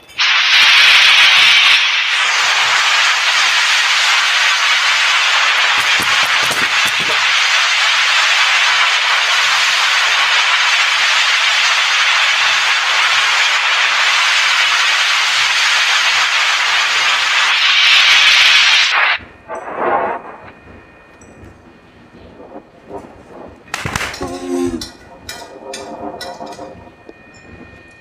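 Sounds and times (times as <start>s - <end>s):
loud steady hiss: 0.0s - 28.0s.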